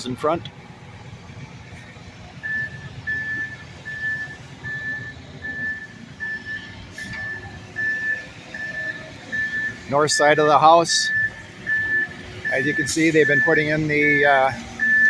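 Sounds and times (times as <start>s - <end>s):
heavy machinery rumble: 0.0s - 15.0s
reversing alarm beeping: 2.4s - 15.0s.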